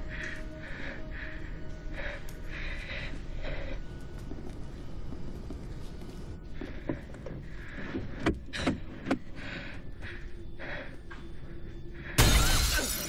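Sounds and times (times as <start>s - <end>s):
people breathing nervously: 0.0s - 12.2s.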